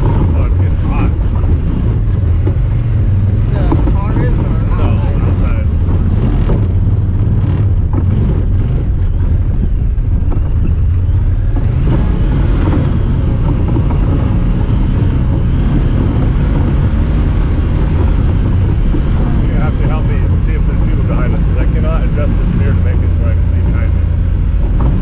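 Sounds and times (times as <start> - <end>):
side-by-side engine running: 0.0 - 25.0.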